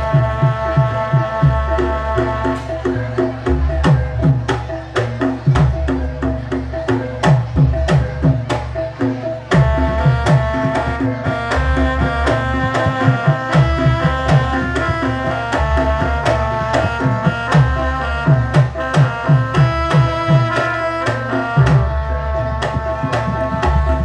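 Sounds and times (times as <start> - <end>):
hand drums beating: 0.0 - 24.0
metal-keyed melody notes: 0.0 - 24.0.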